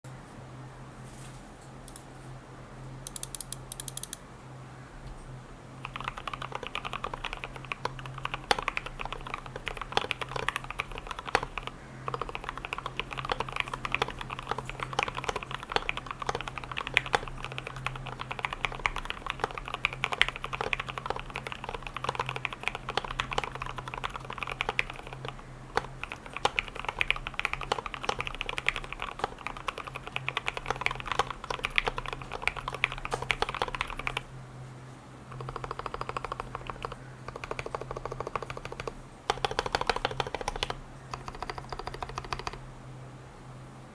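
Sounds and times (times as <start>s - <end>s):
typing on mechanical keyboard: 3.1s - 4.2s, 5.8s - 34.3s, 35.3s - 42.6s.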